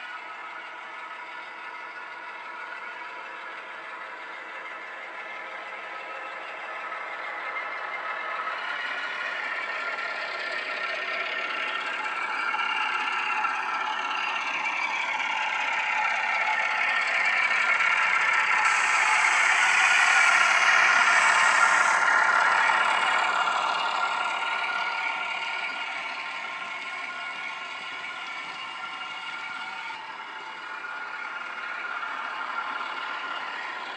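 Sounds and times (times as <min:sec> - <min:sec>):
model diesel engine sound: 0:00.0 - 0:33.9
model train clatter and rattle: 0:00.0 - 0:33.9.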